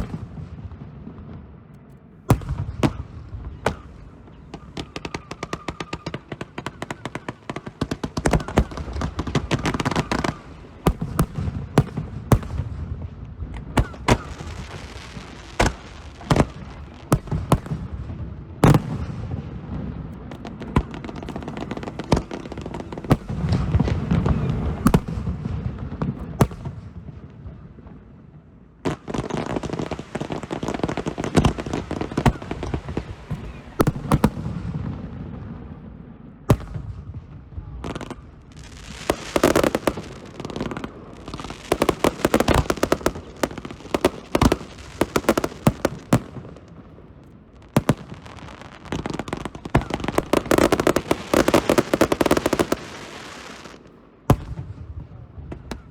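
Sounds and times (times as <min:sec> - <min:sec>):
fireworks crackling: 0:00.0 - 0:00.9, 0:01.8 - 0:27.8, 0:28.9 - 0:35.9, 0:36.5 - 0:55.9.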